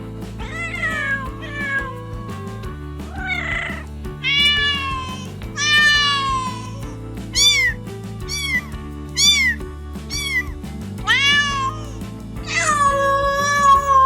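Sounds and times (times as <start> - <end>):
soft background music: 0.0 - 14.0
cat meowing: 0.4 - 14.0.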